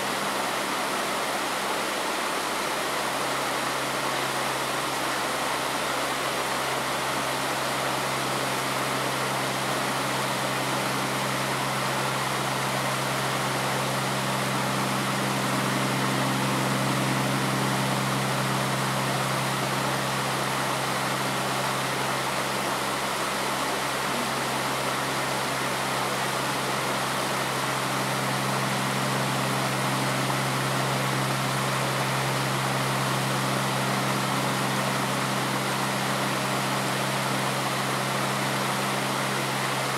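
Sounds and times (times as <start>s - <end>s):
stream water rushing over stones: 0.0s - 39.9s
low steady hum: 5.8s - 39.9s.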